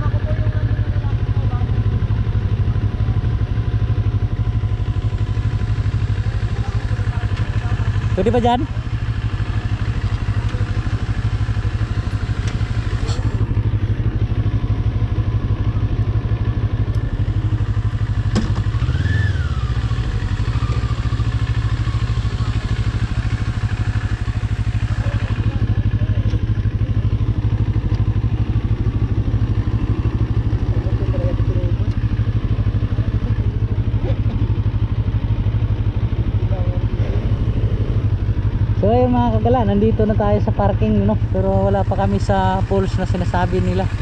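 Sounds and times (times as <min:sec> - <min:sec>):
motorcycle engine at low revs: 0:00.0 - 0:44.0.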